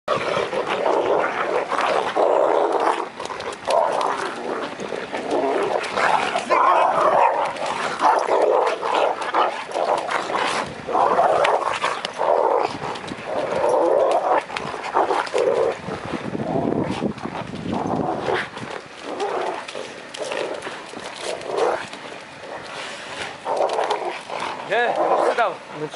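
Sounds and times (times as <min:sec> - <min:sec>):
dogs snarling and growling: 0:00.1 - 0:25.9.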